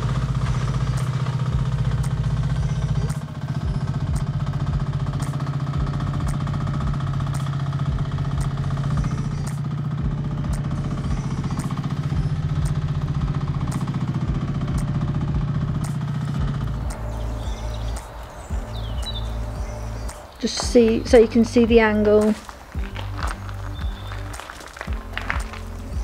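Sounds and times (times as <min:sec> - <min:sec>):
mini excavator diesel engine running: 0:00.0 - 0:26.0.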